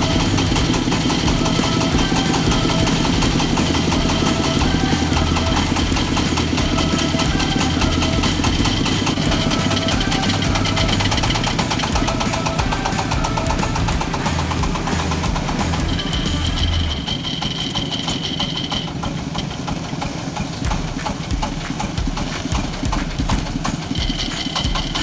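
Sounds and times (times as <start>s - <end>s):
music: 0.0s - 17.0s, 20.7s - 25.0s
diesel engine running: 0.0s - 22.5s.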